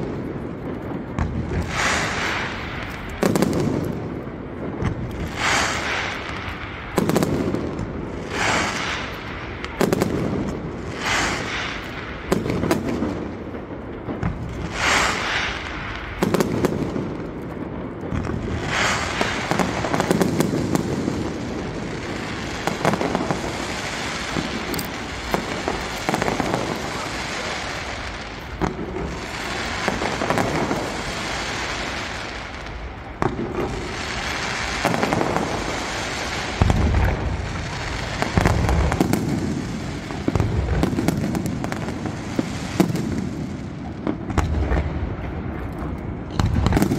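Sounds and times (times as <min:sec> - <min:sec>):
fireworks bangs: 0:00.0 - 0:46.9
fireworks crackle: 0:00.0 - 0:46.9.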